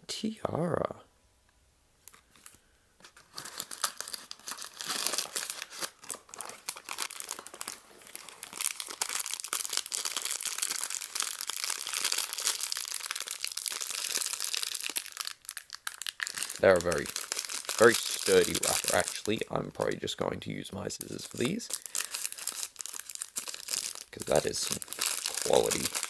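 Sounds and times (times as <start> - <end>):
plastic wrapper crinkling: 2.1 - 26.0.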